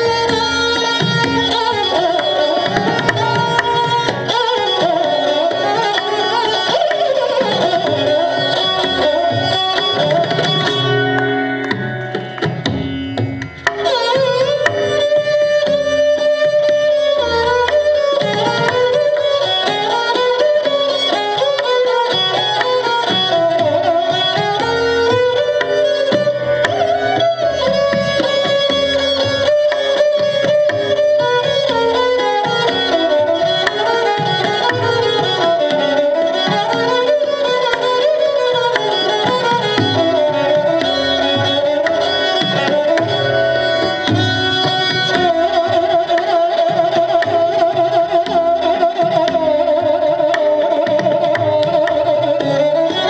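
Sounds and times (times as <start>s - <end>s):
bowed sarangi melody: 0.0s - 53.0s
tabla strokes: 0.0s - 53.0s.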